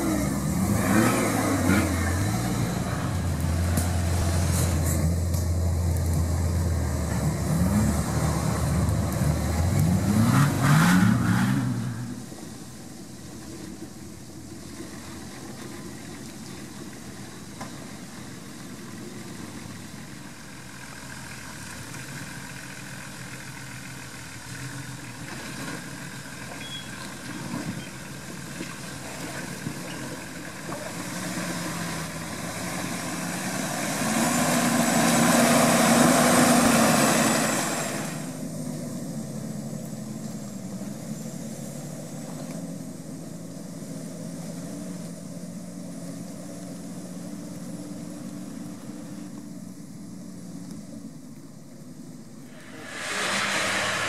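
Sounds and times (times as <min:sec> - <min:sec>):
vehicle engine running: 0:00.0 - 0:10.8, 0:12.0 - 0:54.0.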